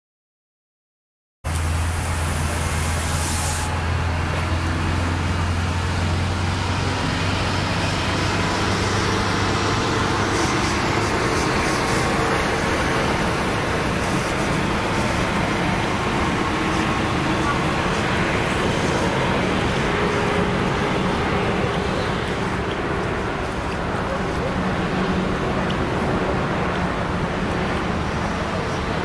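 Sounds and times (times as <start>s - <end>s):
road traffic noise: 1.4s - 29.0s
low engine hum: 1.5s - 29.0s.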